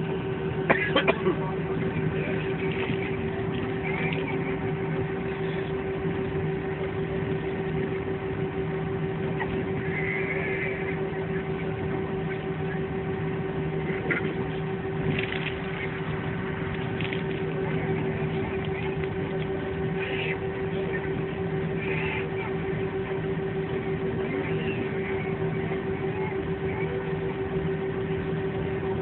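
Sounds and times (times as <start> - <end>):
jet airliner cabin noise: 0.0 - 29.0.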